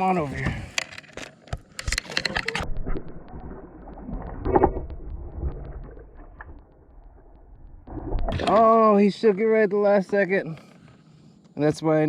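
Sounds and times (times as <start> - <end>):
small ticks: 0.7 - 11.7.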